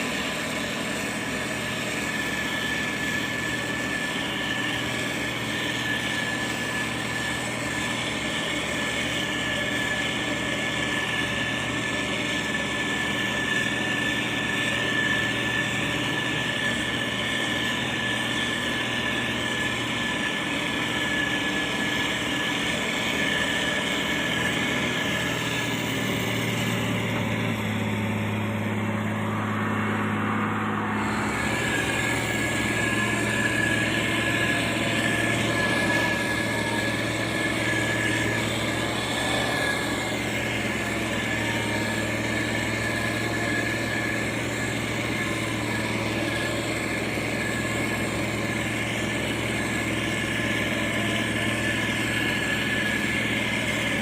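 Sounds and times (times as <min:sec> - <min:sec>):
diesel engine running: 0:00.0 - 0:54.0
high whine: 0:00.0 - 0:54.0.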